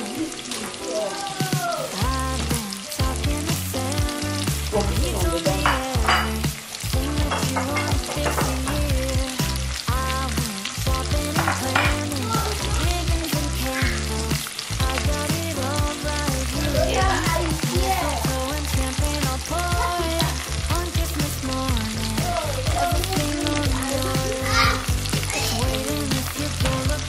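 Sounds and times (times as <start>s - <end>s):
background song with singing: 0.0s - 27.0s
food frying hiss: 0.0s - 27.0s.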